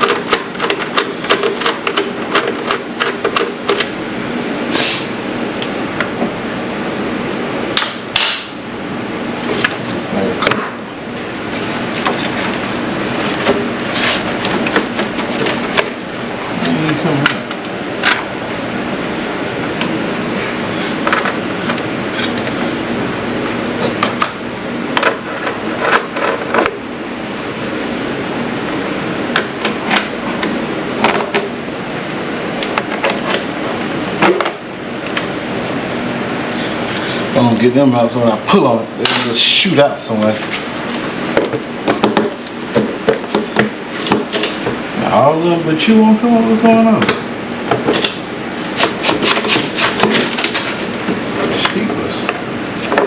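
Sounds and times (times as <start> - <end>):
steady background noise: 0.0 - 53.0.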